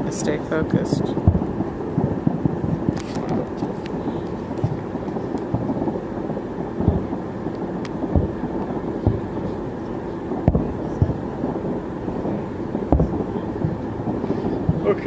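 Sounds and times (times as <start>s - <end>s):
low rumble of fireworks: 0.0s - 15.0s
sharp firework booms: 0.0s - 15.0s.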